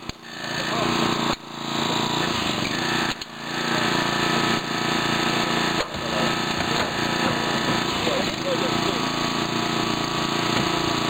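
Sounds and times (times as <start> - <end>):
hydraulic cutters cutting metal: 0.0 - 11.0
small engine running: 0.0 - 11.0.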